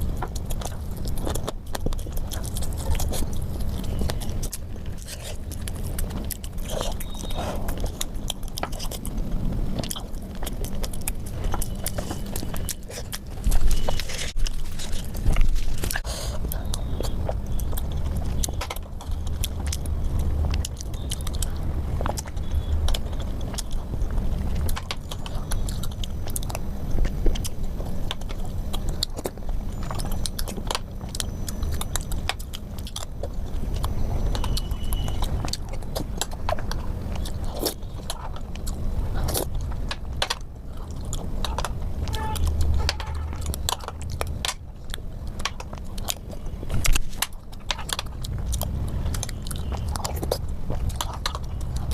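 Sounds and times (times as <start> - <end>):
chewing and mouth smacks: 0.0 - 51.9
sharp clicks and crunches: 0.0 - 51.9.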